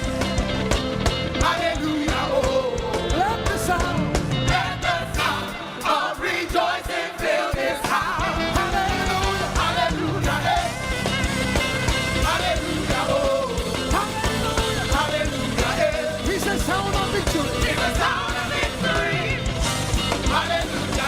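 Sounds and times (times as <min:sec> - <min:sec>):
gospel band playing: 0:00.0 - 0:21.0
people singing: 0:01.2 - 0:21.0.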